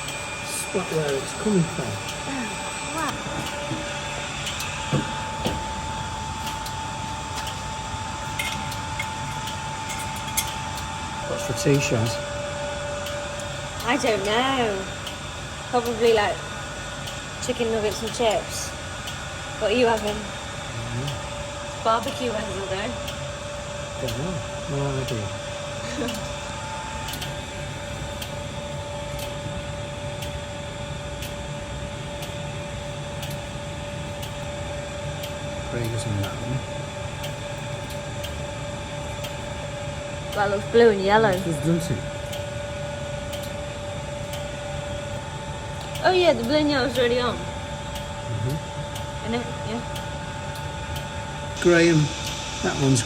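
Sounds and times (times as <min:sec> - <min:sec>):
mechanical hum with high whine: 0:00.0 - 0:53.0.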